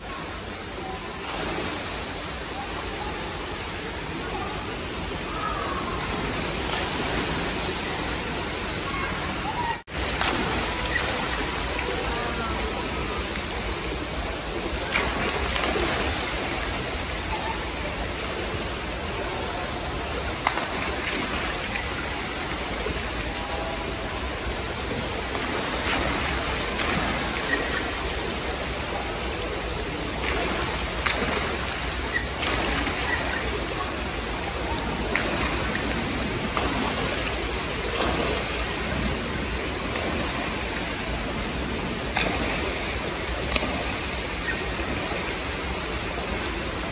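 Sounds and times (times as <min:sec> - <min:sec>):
fountain water splashing into pool: 0:00.0 - 0:46.9.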